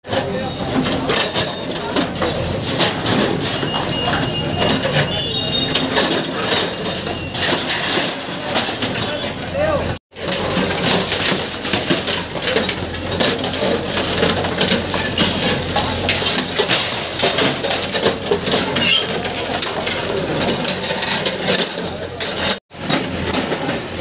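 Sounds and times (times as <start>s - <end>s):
bricks and rubble crashing down: 0.1s - 24.0s.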